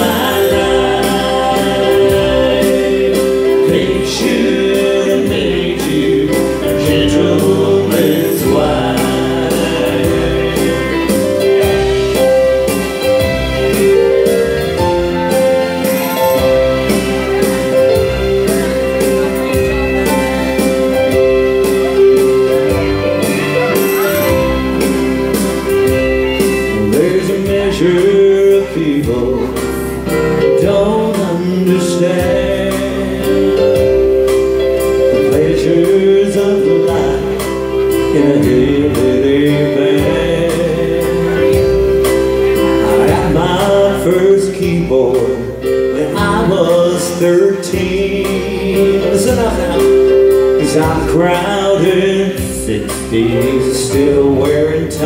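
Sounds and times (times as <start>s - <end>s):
country waltz on electronic keyboard: 0.0s - 55.0s
man singing: 0.0s - 55.0s.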